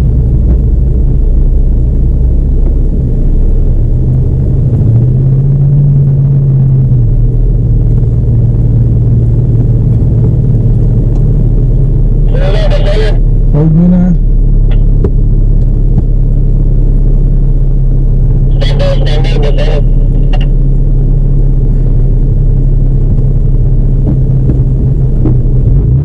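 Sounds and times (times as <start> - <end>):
vehicle engine droning and revving: 0.0 - 26.0.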